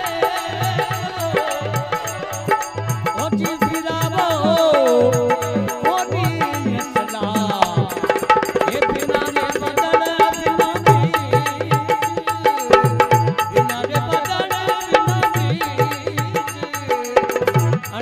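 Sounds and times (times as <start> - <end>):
person singing: 0.0 - 18.0
hand drum beating: 2.9 - 18.0.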